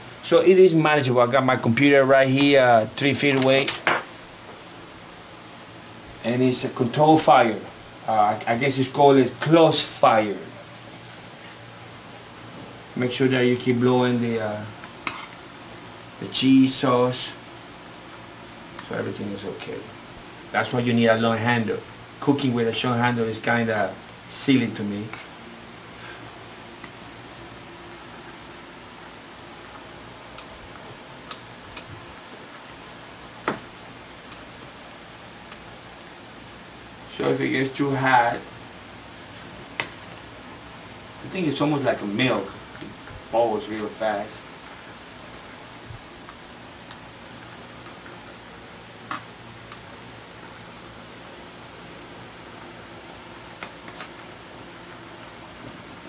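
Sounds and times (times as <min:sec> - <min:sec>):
sauce bubbling with crackling hiss: 0:00.0 - 0:56.0.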